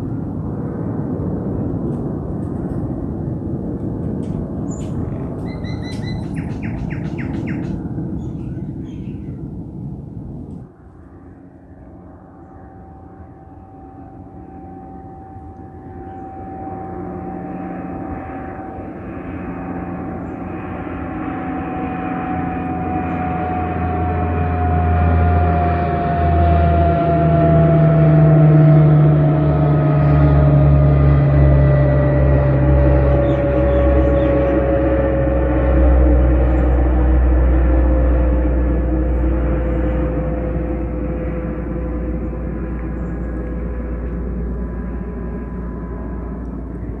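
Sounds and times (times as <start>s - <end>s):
turboprop airliner engines: 0.0s - 47.0s.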